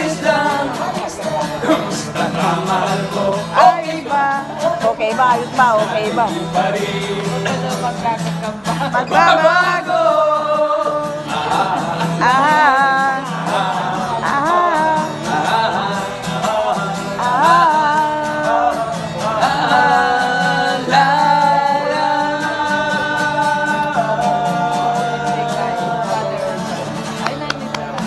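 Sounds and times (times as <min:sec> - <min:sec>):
man singing a slow ballad: 0:00.0 - 0:26.8
acoustic guitar strumming: 0:00.0 - 0:28.0.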